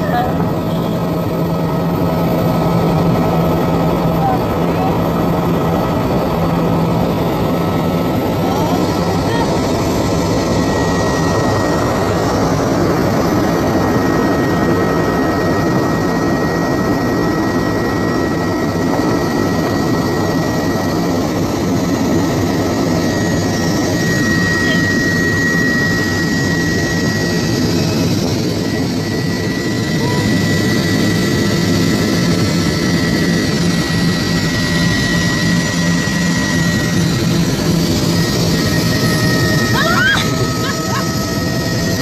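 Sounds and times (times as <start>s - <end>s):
helicopter rotor rumble: 0.0s - 42.0s
high steady whine: 0.0s - 42.0s.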